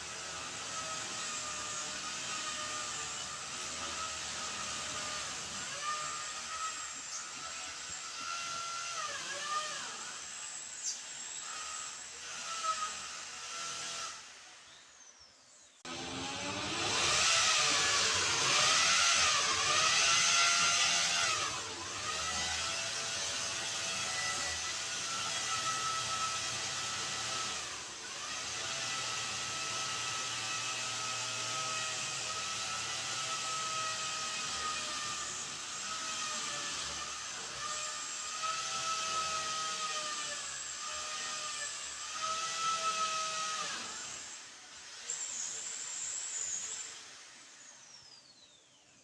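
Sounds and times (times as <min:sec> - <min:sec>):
drill whining: 0:00.0 - 0:14.6, 0:15.9 - 0:48.8.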